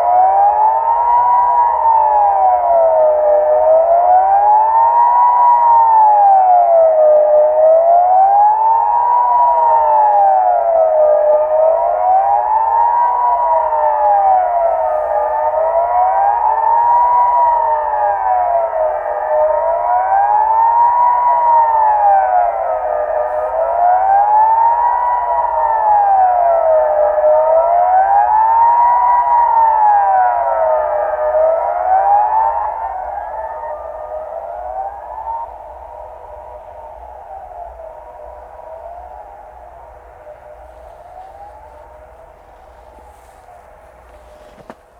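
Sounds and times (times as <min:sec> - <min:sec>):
civil defense siren wailing: 0:00.0 - 0:44.9
faint distant siren wails: 0:00.0 - 0:44.9.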